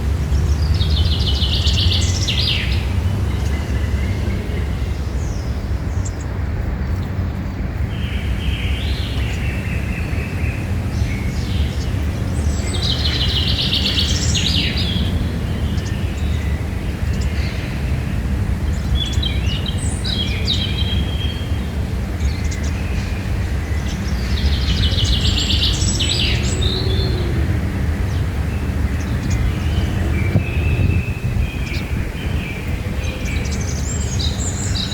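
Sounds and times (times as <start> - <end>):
birds chirping and singing: 0.2 - 7.2, 7.9 - 34.9.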